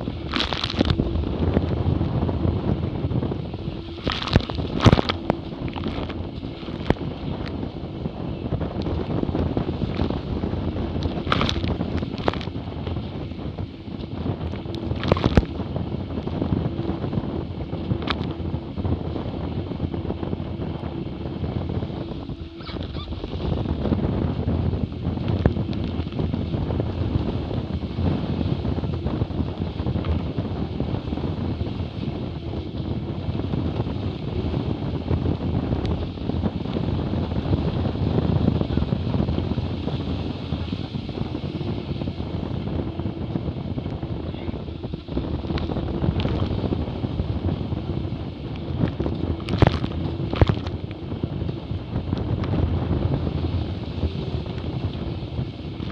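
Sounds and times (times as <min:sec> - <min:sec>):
water rushing past hulls: 0:00.0 - 0:55.9
wind buffeting microphone: 0:00.0 - 0:55.9.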